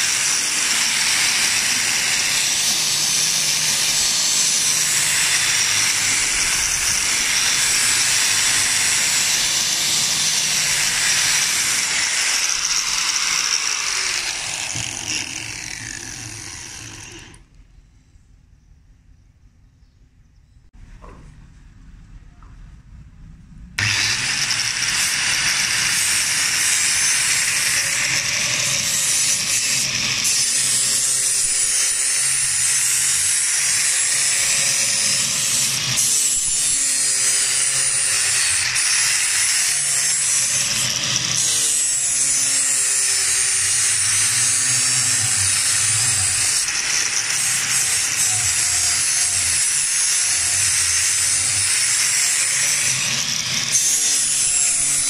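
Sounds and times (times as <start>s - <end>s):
angle grinder grinding steel: 0.0s - 17.5s, 23.8s - 55.0s.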